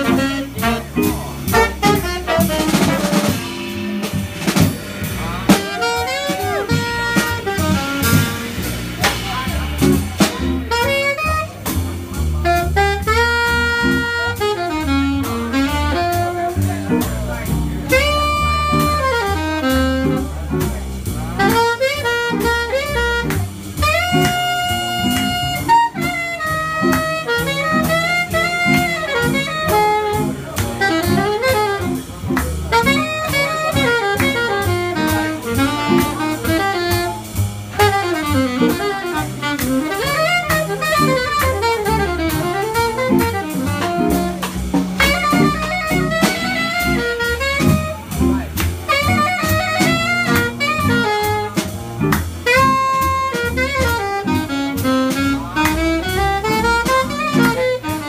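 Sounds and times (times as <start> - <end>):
bass line: 0.0 - 58.0
drum kit cymbals: 0.0 - 58.0
saxophone jazz solo: 0.0 - 58.0.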